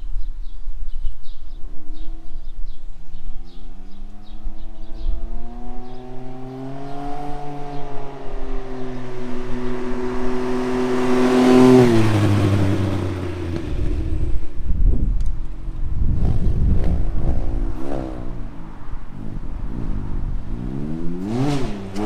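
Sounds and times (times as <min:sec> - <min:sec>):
three-wheeler engine passing by: 0:01.6 - 0:22.0.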